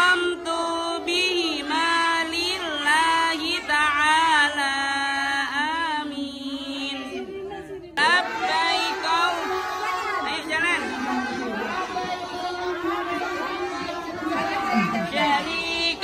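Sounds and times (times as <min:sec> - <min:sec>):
children chanting a prayer: 0:00.0 - 0:16.0.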